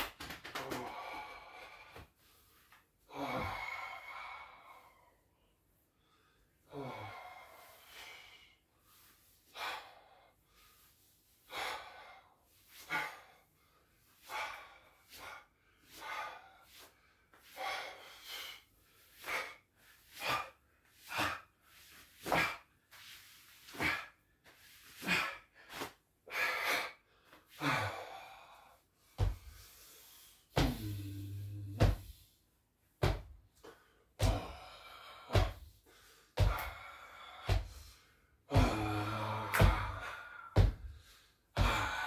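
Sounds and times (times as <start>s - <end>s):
man breathing deeply: 0.8s - 32.4s, 33.6s - 42.0s.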